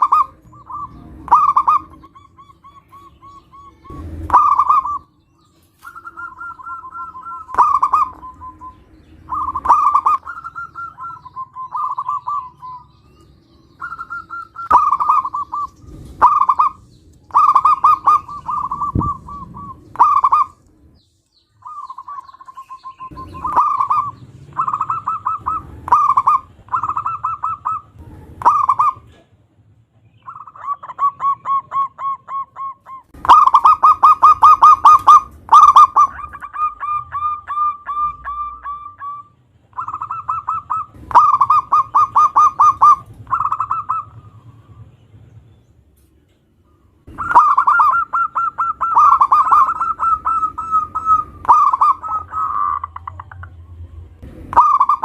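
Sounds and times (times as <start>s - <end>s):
doves cooing: 0.0s - 29.4s, 30.1s - 44.9s, 46.6s - 55.0s.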